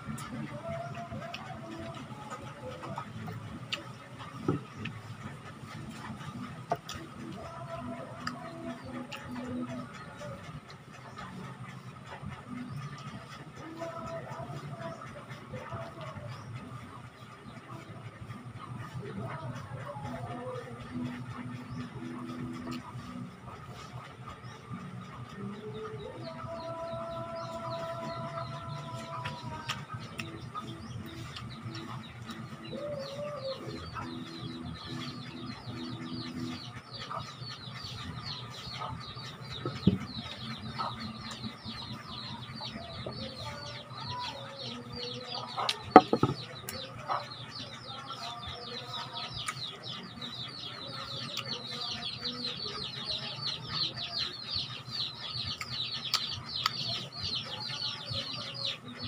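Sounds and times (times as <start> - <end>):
chickens clucking: 0.0 - 59.0
continuous high chirping: 0.0 - 59.0.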